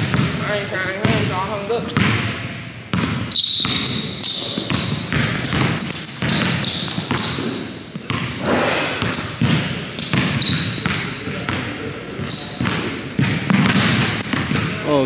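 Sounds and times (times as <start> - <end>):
basketball dribbling on hardwood: 0.0 - 8.4, 9.0 - 14.8.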